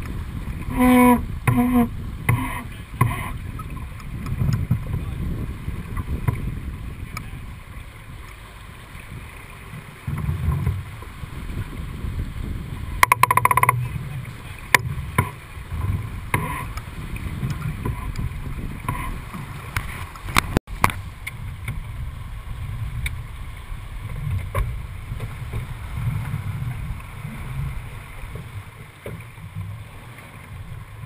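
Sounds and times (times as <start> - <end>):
wind buffeting microphone: 0.0 - 31.0
yacht rushing through water: 0.0 - 31.0.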